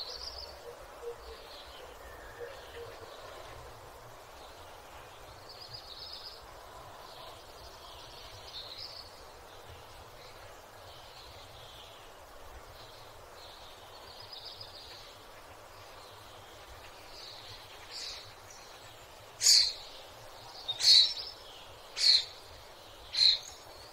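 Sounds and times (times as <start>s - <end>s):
songbirds chirping and trilling: 0.0s - 23.9s.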